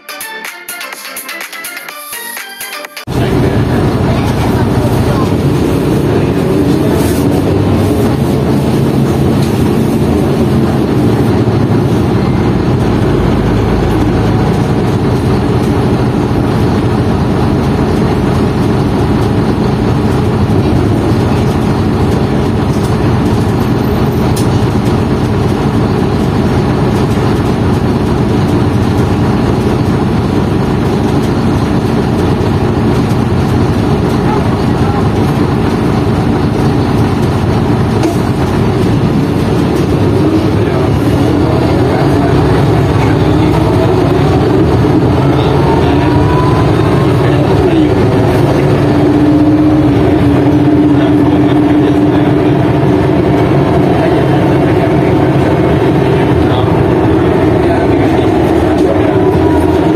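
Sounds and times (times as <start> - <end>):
bus diesel engine droning: 3.0 - 59.9.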